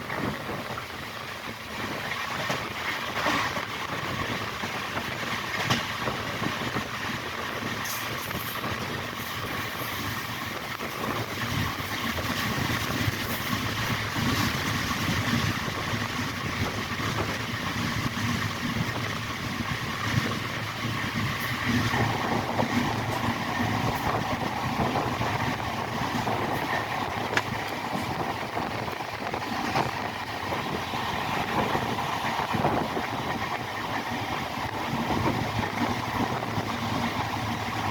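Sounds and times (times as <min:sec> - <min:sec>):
train rumbling on rails: 0:00.0 - 0:37.9.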